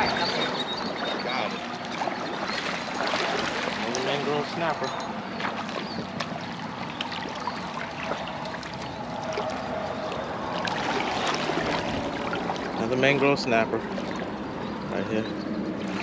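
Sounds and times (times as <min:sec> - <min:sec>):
water lapping at shore: 0:00.0 - 0:16.0.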